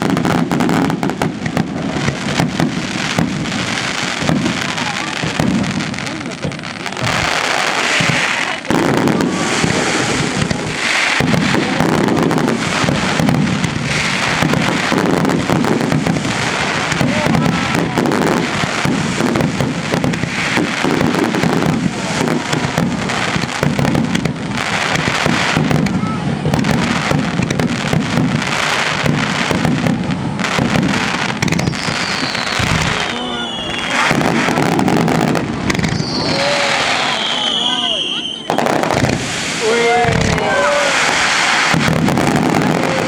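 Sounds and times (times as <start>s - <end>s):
fireworks booming and crackling: 0.0s - 43.0s.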